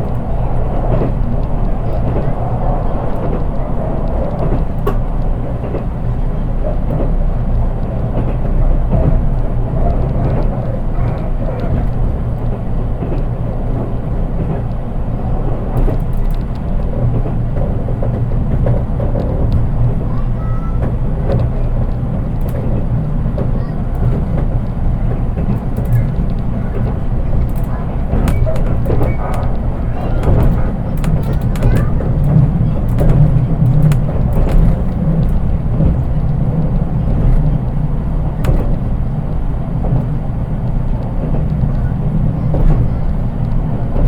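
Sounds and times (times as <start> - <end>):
faint clicks: 0.0 - 44.0
train wheels rumbling on rail: 0.0 - 44.0.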